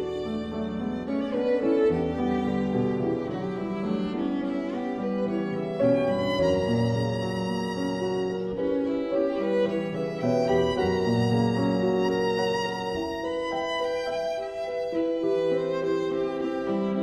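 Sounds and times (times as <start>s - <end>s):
bowed strings music: 0.0s - 17.0s.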